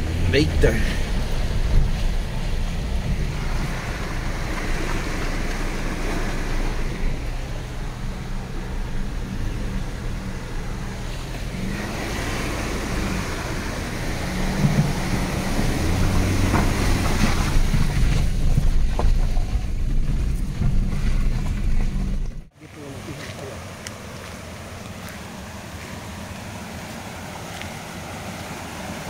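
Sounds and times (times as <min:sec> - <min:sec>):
water rushing and splashing: 0:00.0 - 0:19.2, 0:22.5 - 0:29.0
car engine running: 0:00.0 - 0:29.0.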